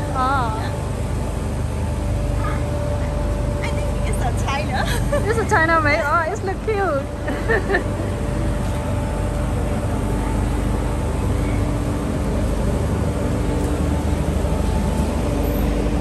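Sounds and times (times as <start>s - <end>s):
faint machine hum: 0.0s - 16.0s
street noise rumble: 0.0s - 16.0s.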